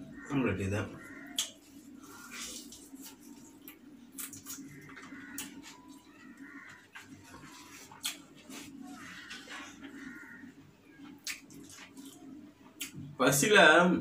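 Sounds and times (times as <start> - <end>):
person chewing with wet smacking: 1.0 - 10.2, 11.0 - 13.0.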